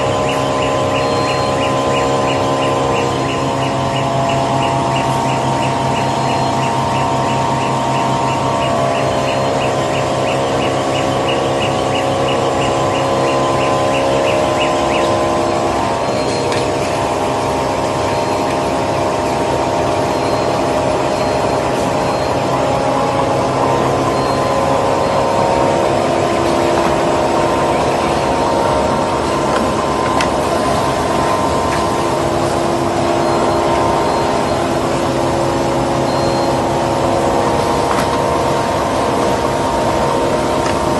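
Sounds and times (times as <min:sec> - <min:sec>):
machinery hum: 0:00.0 - 0:40.9.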